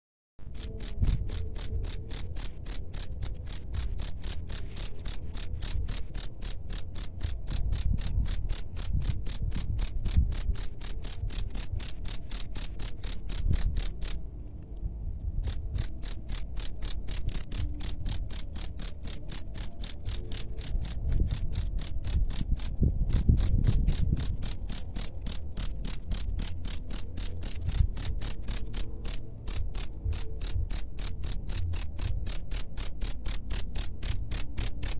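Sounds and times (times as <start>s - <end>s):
cricket chirping: 0.4s - 14.2s, 15.2s - 34.9s.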